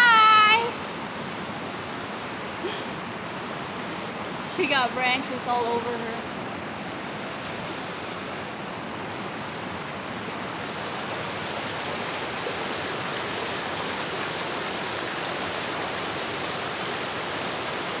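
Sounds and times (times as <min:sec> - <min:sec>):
small waterfall pouring: 0:00.0 - 0:18.0
water rushing over rocks: 0:00.0 - 0:18.0.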